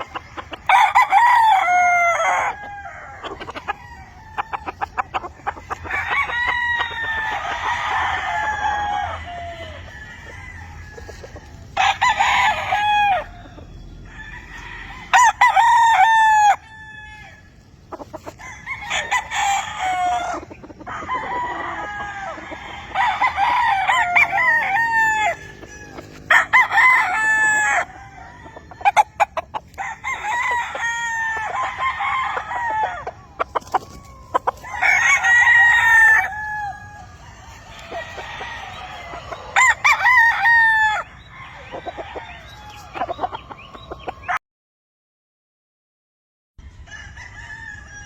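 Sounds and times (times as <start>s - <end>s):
chickens clucking: 0.0s - 16.6s, 17.2s - 44.4s
roosters crowing: 0.0s - 44.4s, 46.6s - 48.0s.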